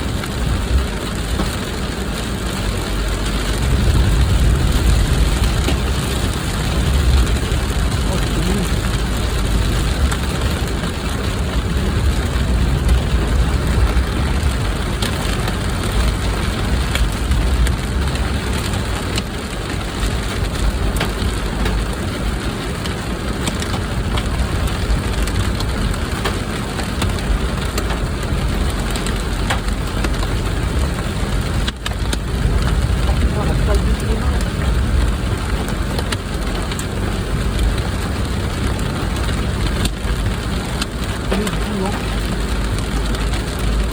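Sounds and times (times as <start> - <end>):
low rumble: 0.0 - 22.4, 23.3 - 43.9
sharp taps of rain impacts: 0.0 - 43.9
torrential rain: 0.0 - 43.9.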